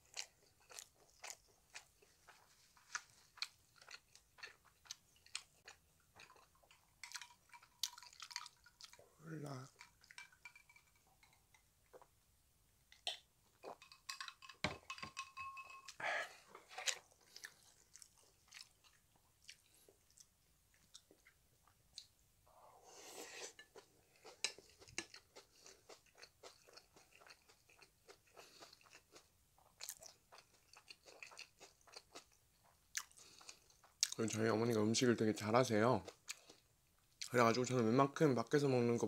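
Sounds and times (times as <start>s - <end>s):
chewing rice: 0.0s - 12.1s, 15.9s - 22.2s, 23.2s - 37.6s.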